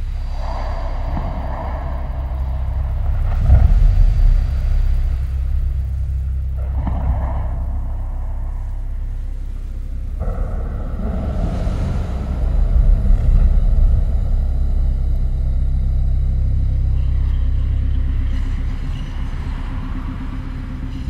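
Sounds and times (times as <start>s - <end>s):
deep low rumble: 0.0s - 21.0s
whooshing tonal washes: 0.0s - 21.0s.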